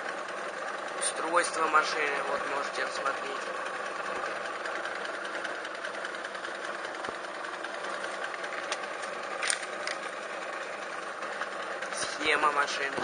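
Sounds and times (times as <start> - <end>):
washing machine motor humming: 0.0 - 13.0.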